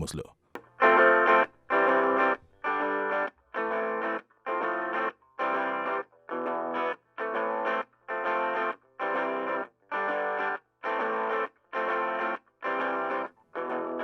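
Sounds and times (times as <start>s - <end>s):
distorted electric guitar strumming: 0.6s - 14.0s.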